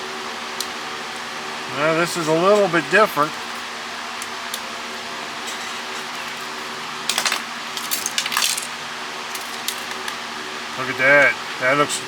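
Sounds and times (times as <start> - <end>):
fan-like hum: 0.0 - 12.0.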